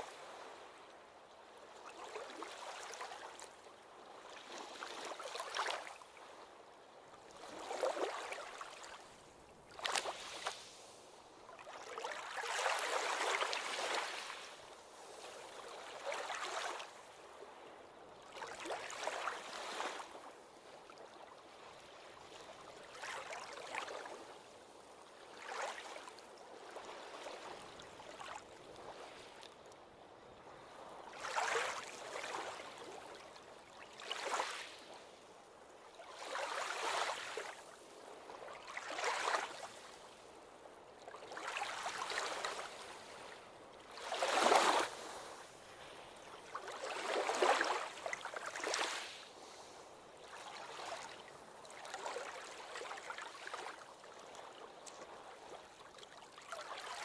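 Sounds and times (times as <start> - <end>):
ocean waves washing on beach: 0.0 - 55.8.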